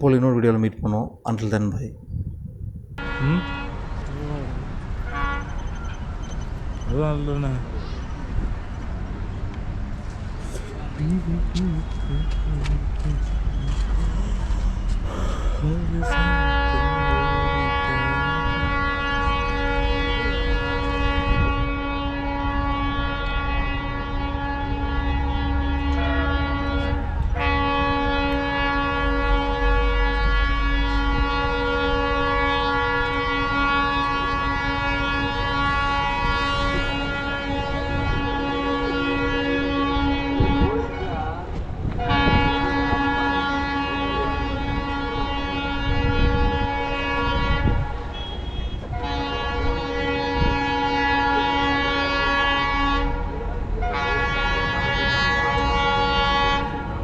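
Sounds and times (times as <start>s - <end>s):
locomotive horn blast: 3.0s - 5.7s, 10.6s - 57.0s
passing train rumble: 7.4s - 48.2s, 48.8s - 57.0s.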